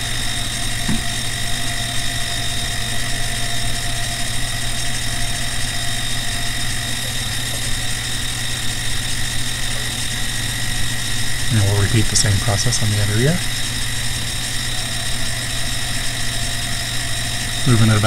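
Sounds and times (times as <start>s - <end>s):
milling machine humming and whining: 0.0s - 18.0s.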